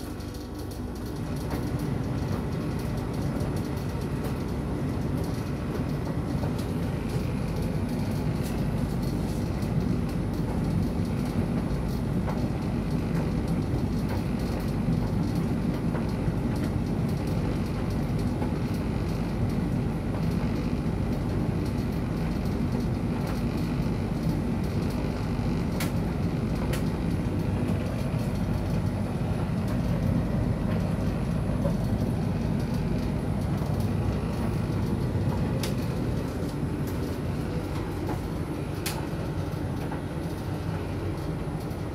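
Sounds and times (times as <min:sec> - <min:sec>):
tumble dryer drum rumbling: 0:00.0 - 0:41.9.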